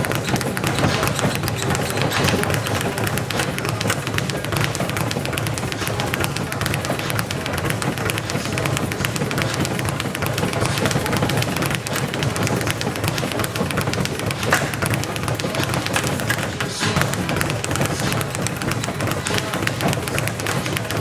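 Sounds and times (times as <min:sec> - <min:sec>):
speed bag rattling: 0:00.0 - 0:21.0.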